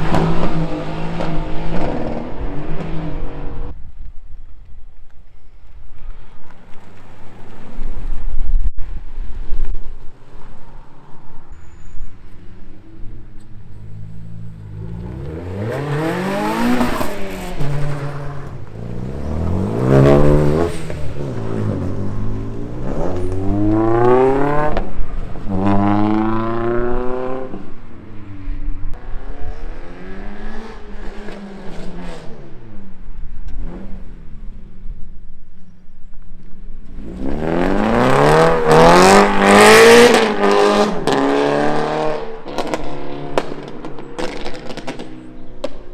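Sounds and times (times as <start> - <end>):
car engines revving: 0.0 - 3.8, 9.8 - 35.6, 36.5 - 45.9.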